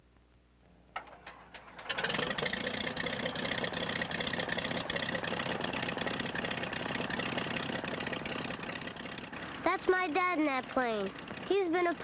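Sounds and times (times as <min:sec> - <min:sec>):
aircraft piston engine running: 0:01.0 - 0:12.0.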